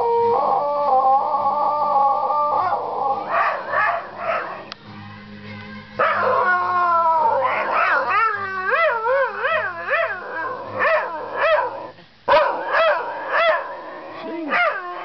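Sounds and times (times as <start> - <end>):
dog howling: 0.0 - 4.7, 6.0 - 15.0.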